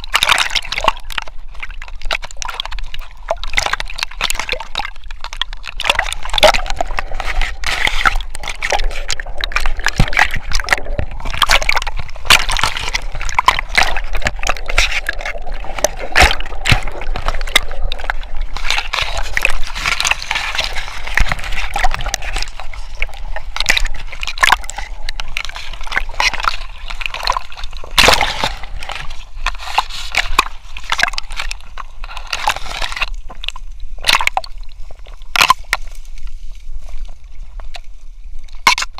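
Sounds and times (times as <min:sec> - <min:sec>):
reed stalks clicking and scraping: 0:00.0 - 0:38.9
water sloshing and splashing: 0:00.0 - 0:38.9.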